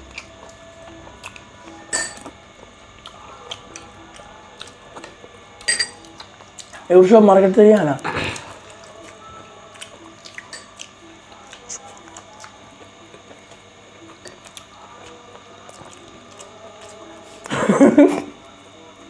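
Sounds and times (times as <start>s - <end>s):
person chewing: 0.0s - 6.9s, 8.0s - 17.5s
faint background music: 0.0s - 19.0s.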